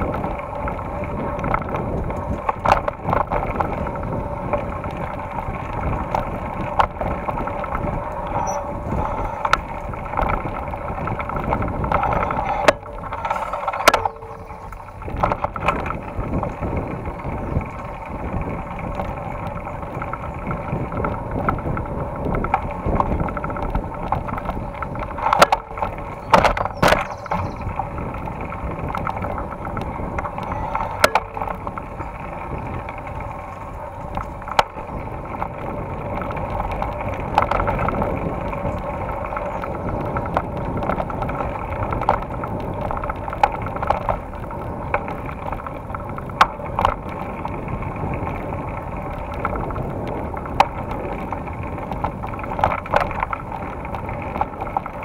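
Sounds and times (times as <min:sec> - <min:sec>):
bike knocks and rattles: 0:00.0 - 0:55.0
bike tyres rumbling on dirt: 0:00.0 - 0:55.0
wind on microphone: 0:00.0 - 0:55.0.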